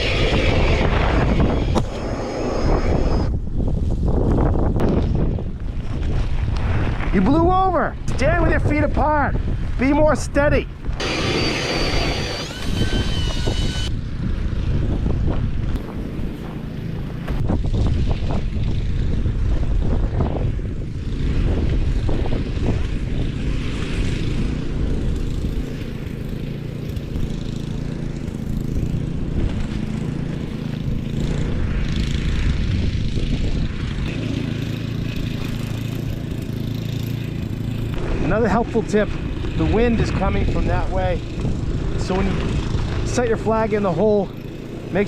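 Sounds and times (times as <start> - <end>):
small engine running: 0.0 - 7.7, 8.3 - 45.0
wind buffeting microphone: 0.0 - 45.0.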